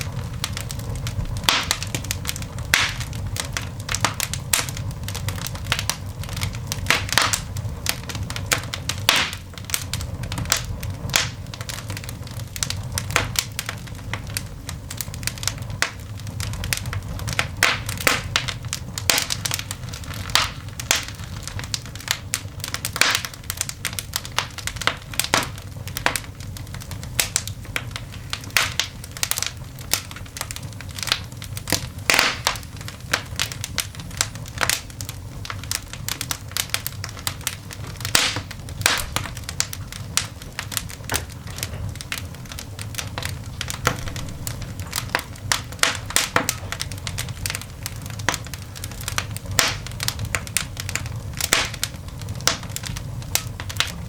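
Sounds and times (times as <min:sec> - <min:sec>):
coal fire crackling and popping: 0:00.0 - 0:54.0
low steady rumble: 0:00.0 - 0:54.0.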